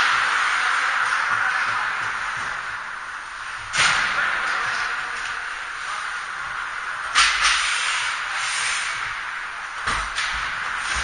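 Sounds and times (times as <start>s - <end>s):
hockey play on ice: 0.0s - 9.2s
ice rink hiss: 0.0s - 11.0s.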